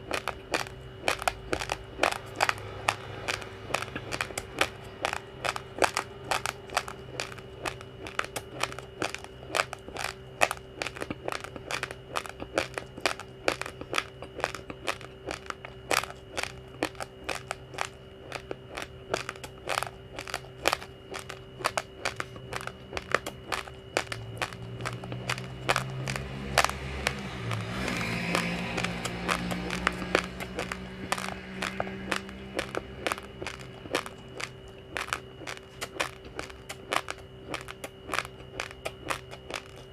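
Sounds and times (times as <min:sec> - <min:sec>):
rice grains crunched by teeth: 0:00.0 - 0:39.9.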